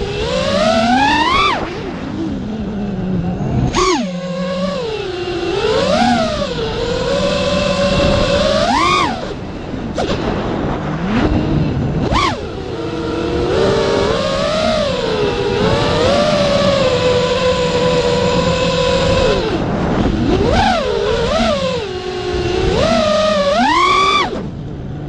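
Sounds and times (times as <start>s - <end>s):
rc car motor revving: 0.0s - 10.2s, 10.9s - 24.5s.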